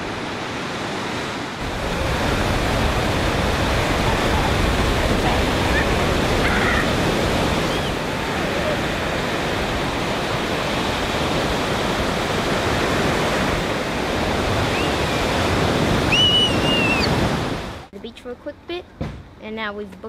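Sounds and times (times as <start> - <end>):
surf breaking on beach: 0.0 - 17.9.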